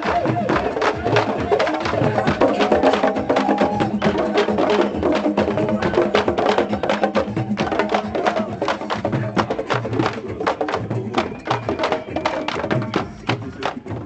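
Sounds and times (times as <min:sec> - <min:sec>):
barrel drums beating fast: 0:00.0 - 0:14.0.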